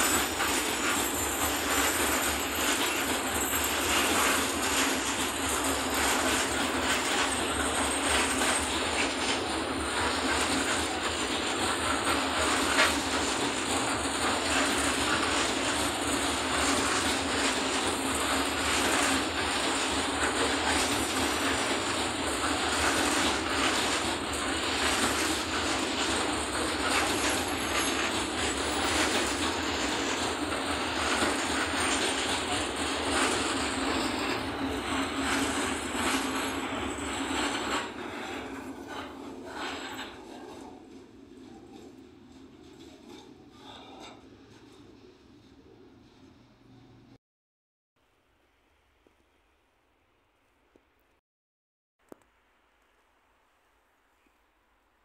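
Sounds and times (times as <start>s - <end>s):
metallic clatter: 0.0s - 44.8s
freight train wheels rolling: 0.0s - 47.2s.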